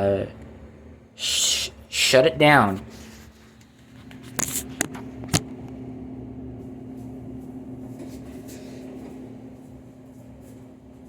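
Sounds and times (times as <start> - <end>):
air handler blower humming: 0.0 - 11.0.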